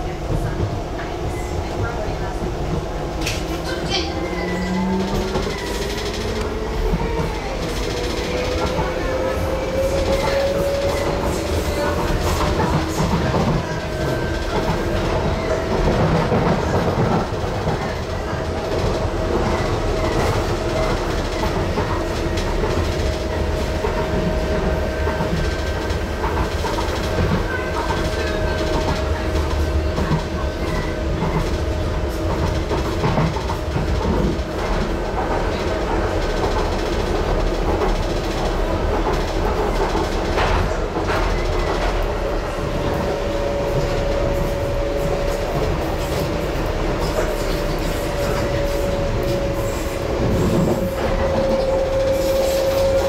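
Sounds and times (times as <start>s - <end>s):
rail clicks: 0.0s - 53.0s
train running on track: 0.0s - 53.0s.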